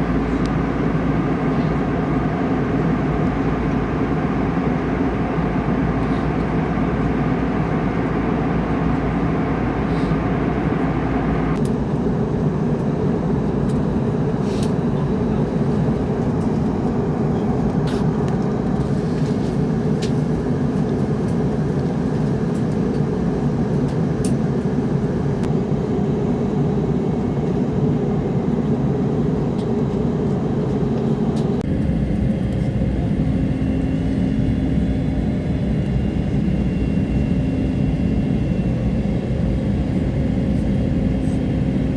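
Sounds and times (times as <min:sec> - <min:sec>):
jet airliner in flight: 0:00.0 - 0:41.9.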